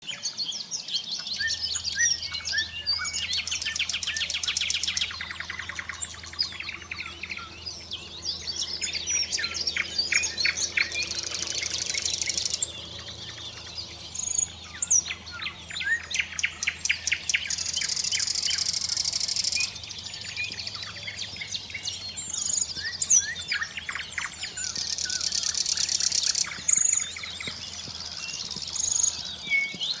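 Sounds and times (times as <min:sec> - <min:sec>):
birds singing whistles and chirps: 0:00.0 - 0:30.0.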